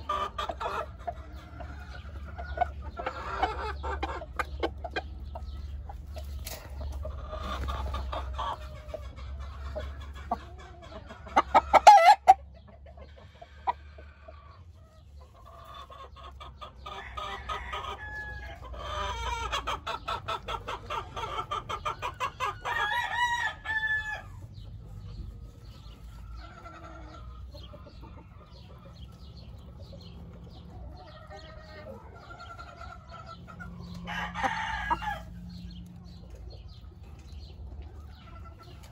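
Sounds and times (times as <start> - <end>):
roosters crowing and clucking: 0.0 - 38.9.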